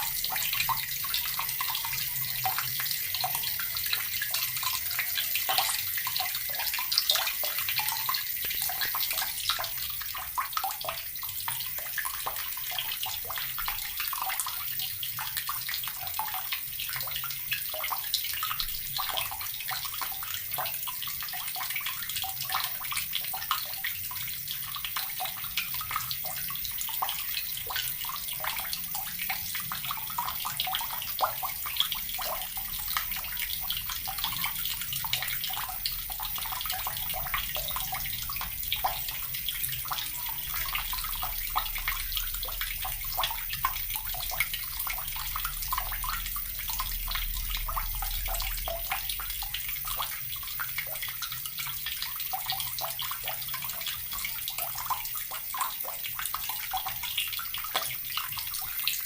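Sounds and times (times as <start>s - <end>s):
tap water running and splashing: 0.0s - 59.0s.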